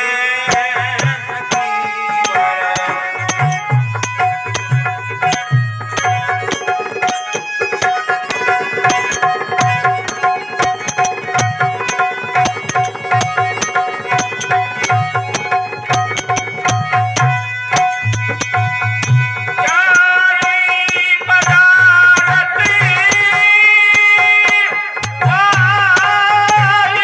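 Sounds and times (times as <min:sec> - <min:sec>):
harmonium melody over drone: 0:00.0 - 0:27.0
hand drum beat: 0:00.5 - 0:27.0
small percussion clicks: 0:00.5 - 0:27.0.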